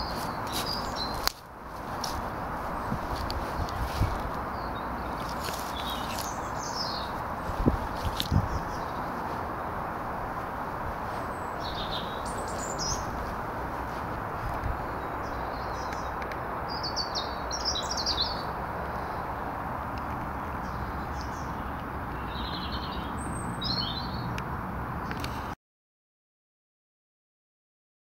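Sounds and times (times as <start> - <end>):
small birds chirping: 0.0 - 24.4
rushing background noise: 0.0 - 25.6.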